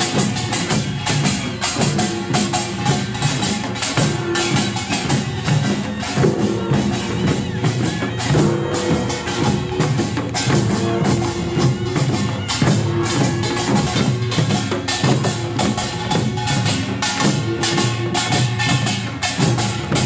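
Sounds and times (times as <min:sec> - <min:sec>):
barrel drums: 0:00.0 - 0:20.0
hourglass drums: 0:00.0 - 0:20.0
large gongs: 0:00.0 - 0:20.0
small gongs clanging: 0:00.0 - 0:20.0.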